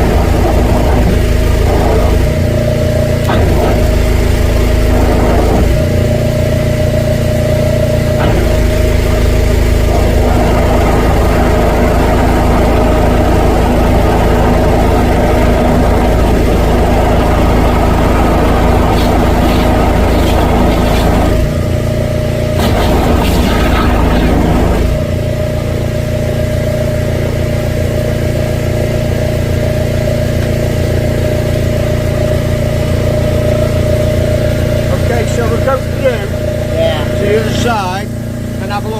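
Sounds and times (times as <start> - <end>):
drain jetter engine running: 0.0 - 38.9.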